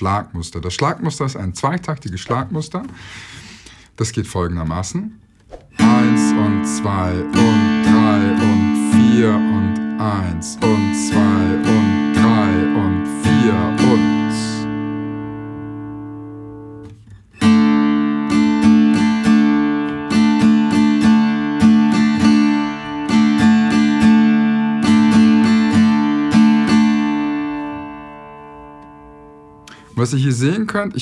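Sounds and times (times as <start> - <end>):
acoustic guitar strumming: 5.4 - 30.6.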